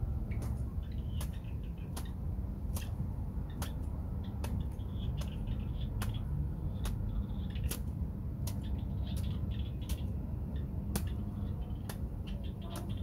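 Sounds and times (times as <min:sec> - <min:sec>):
steady low rumble: 0:00.0 - 0:13.0
sharp clicks: 0:00.2 - 0:13.0.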